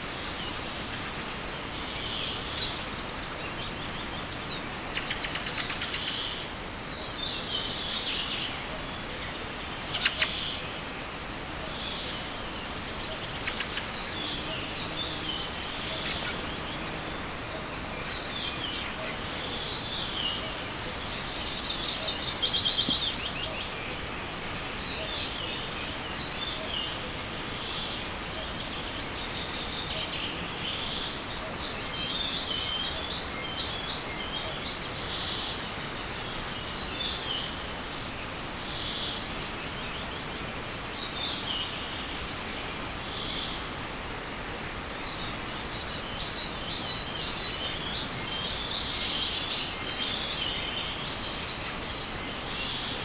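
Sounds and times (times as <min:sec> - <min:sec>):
songbirds singing: 0:00.0 - 0:53.0
steady background hiss: 0:00.0 - 0:53.0.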